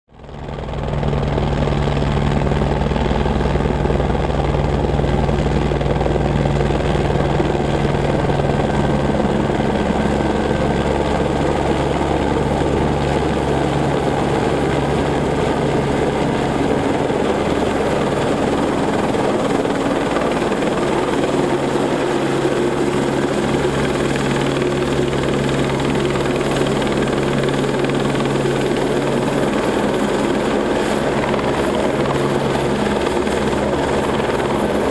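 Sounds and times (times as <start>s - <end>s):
helicopter rotor beating: 0.2s - 34.9s
helicopter turbine engine running: 0.2s - 34.9s.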